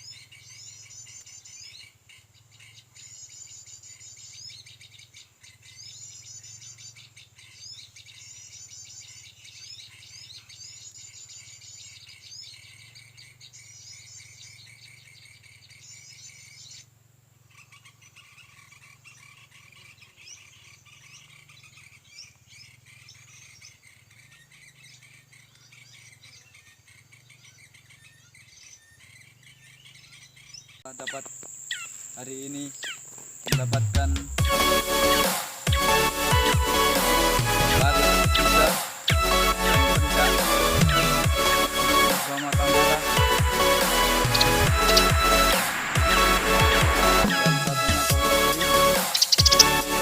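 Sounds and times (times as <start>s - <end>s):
birds warbling: 0.0s - 33.8s, 34.4s - 50.0s
bird chirps: 0.0s - 50.0s
insects buzzing: 0.0s - 50.0s.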